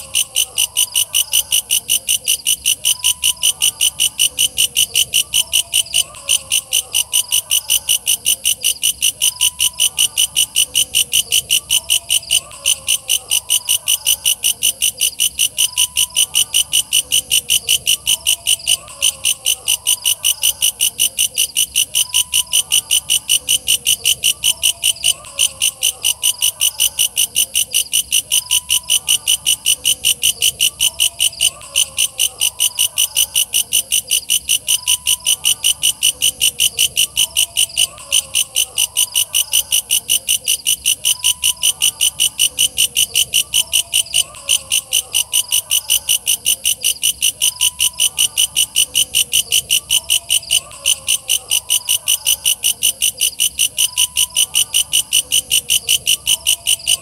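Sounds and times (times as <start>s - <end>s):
katydid chirping: 0.0s - 57.0s.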